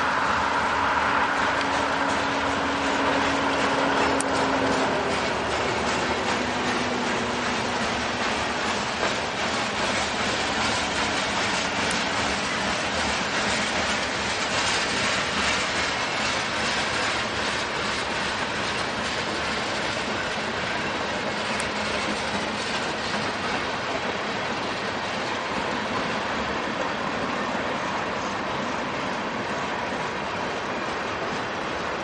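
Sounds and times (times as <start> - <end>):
diesel locomotives droning: 0.0 - 32.0
train wheels clicking over rail joints: 0.0 - 32.0.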